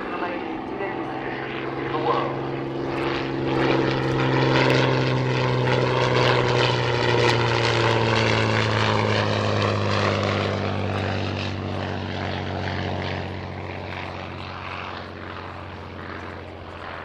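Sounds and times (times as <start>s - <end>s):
propeller plane engine drone: 0.0s - 17.0s.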